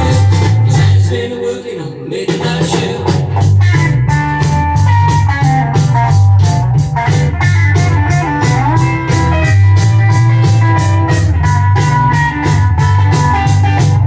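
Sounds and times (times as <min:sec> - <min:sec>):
steady drum beat: 0:00.0 - 0:01.3, 0:02.3 - 0:14.0
bending electric guitar: 0:00.0 - 0:01.7, 0:02.4 - 0:14.0
bass: 0:00.0 - 0:14.0.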